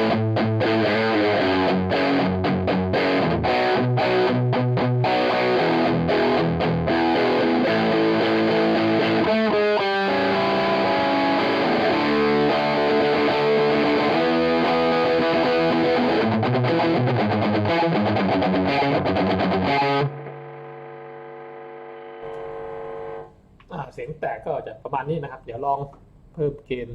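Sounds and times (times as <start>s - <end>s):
distorted electric guitar: 0.0s - 23.2s.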